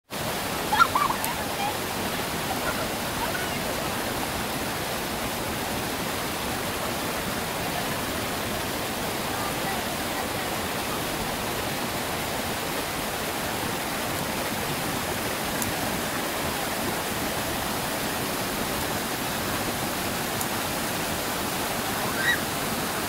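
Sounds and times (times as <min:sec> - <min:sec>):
waterfall roar: 0:00.2 - 0:23.0.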